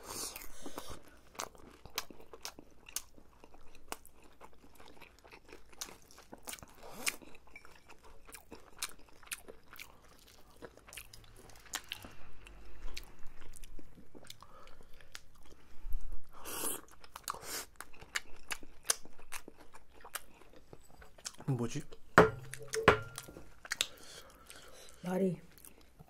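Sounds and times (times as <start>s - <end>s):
close-miked chewing: 0.0s - 26.0s.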